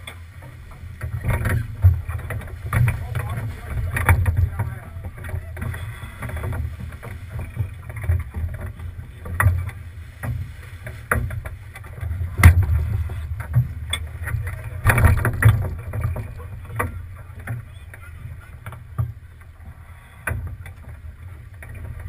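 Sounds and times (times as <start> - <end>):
water splashes: 0.0 - 22.0
wind and water rumble on camera: 0.0 - 22.0.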